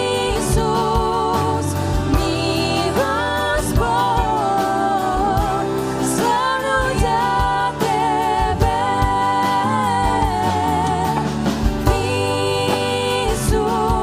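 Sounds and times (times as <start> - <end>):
bass: 0.0 - 14.0
steady drum beat: 0.0 - 14.0.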